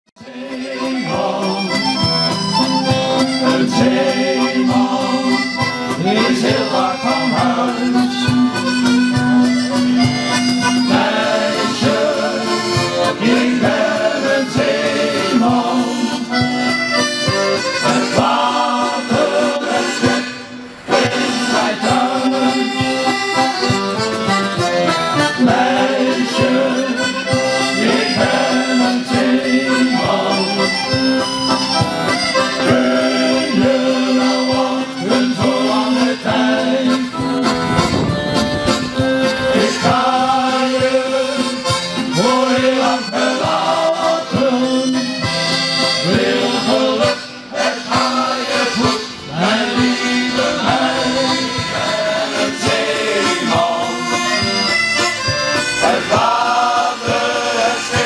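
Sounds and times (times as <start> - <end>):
male choir singing a sea shanty: 0.2 - 8.6, 10.5 - 16.5, 17.2 - 31.1, 32.0 - 38.1, 38.8 - 54.9, 55.6 - 58.0
accordion: 0.2 - 58.0.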